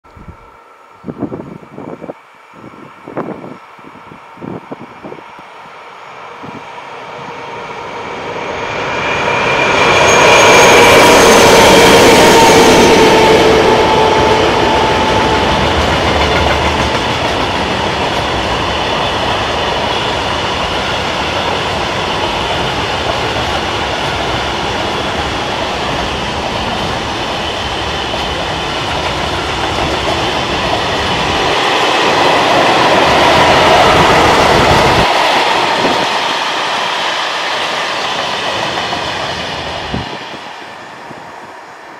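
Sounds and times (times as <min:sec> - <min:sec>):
locomotive engines droning: 0:00.1 - 0:41.9.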